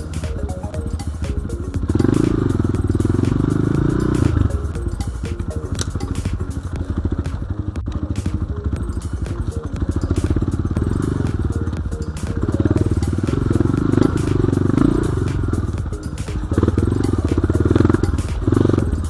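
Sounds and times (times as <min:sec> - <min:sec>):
dirt bike engine revving: 0:01.4 - 0:04.8, 0:05.9 - 0:19.0.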